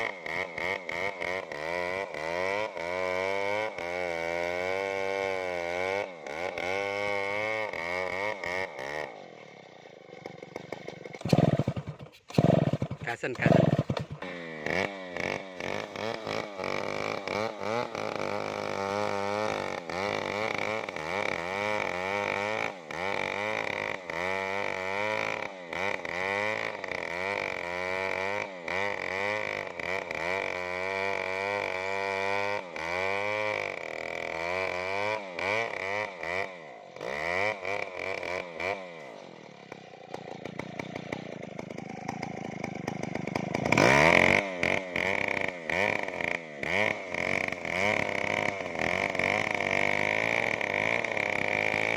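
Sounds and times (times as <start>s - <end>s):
chainsaw cutting into tree: 0.0s - 51.9s.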